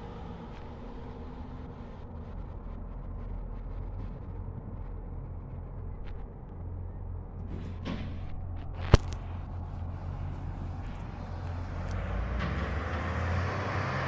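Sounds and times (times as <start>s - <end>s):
garbage truck engine running: 0.0s - 13.9s.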